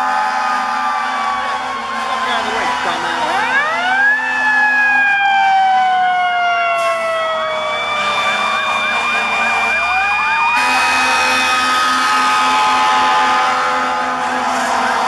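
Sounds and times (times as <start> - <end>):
loud steady siren tone: 0.0 - 15.0
electronic siren wailing and yelping: 1.2 - 13.4.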